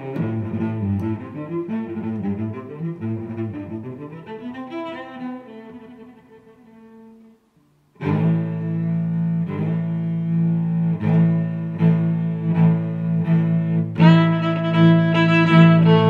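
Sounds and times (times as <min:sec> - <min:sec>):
music with sustained low notes: 0:00.0 - 0:16.0.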